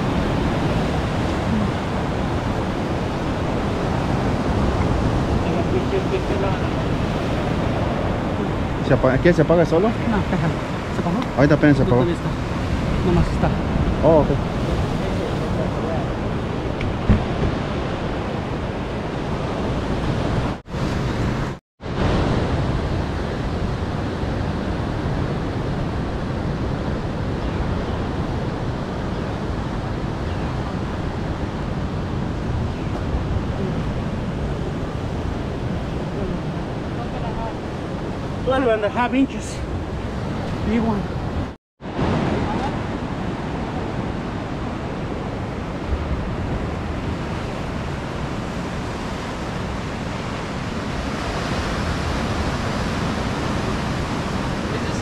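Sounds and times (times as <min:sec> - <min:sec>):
surf washing against rocks: 0:00.0 - 0:27.3, 0:27.9 - 0:55.0
wind rumbling on microphone: 0:00.0 - 0:55.0.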